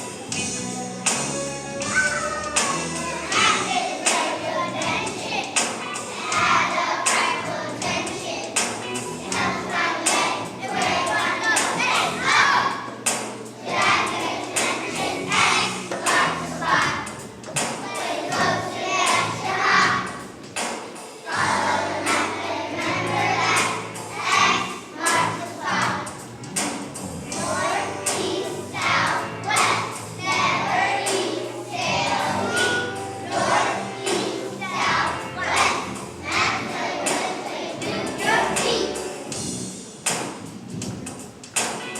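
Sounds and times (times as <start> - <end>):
musical accompaniment with beat: 0.0 - 41.9
children singing as a choir: 1.8 - 39.3.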